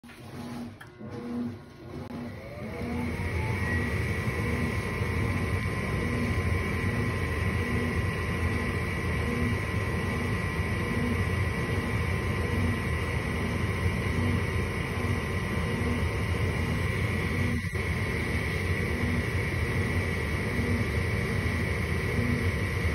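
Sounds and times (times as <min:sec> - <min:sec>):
furnace inducer motor humming: 0:00.0 - 0:22.9.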